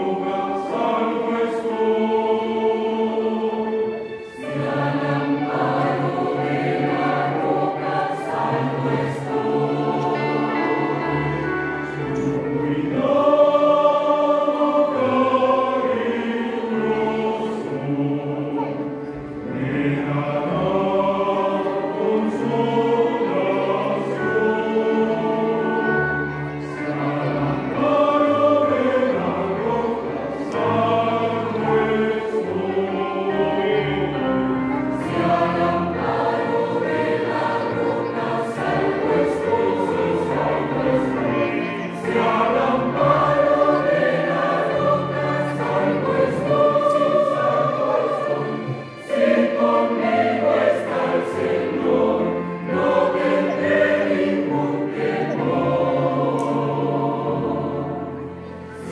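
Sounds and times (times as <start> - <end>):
mixed choir singing a hymn: 0.0 - 58.9.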